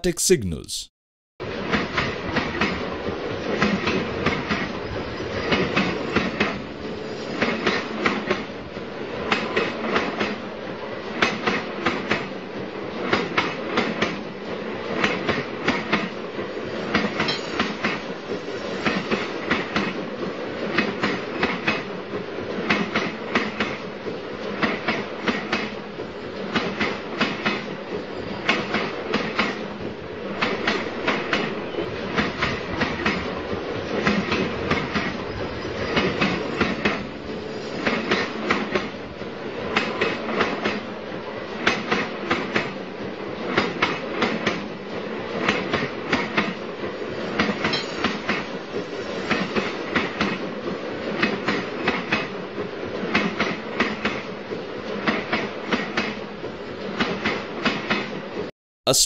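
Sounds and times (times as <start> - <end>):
train wheels clickety-clack: 1.6 - 58.5.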